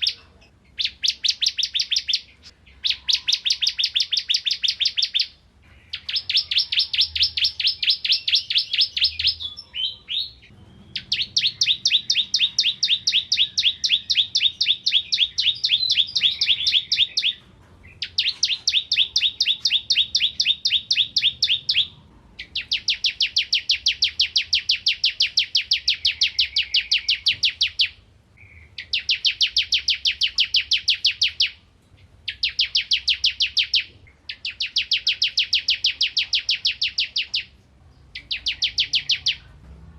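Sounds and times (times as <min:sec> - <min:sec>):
bird singing rapid trills: 0:00.0 - 0:39.5.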